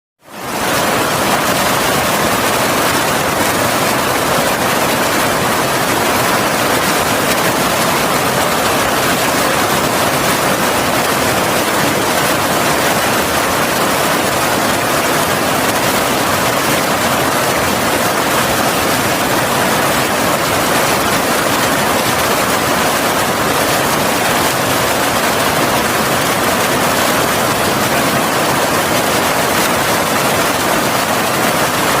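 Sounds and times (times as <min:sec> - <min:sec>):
waterfall rushing: 0:00.3 - 0:32.0.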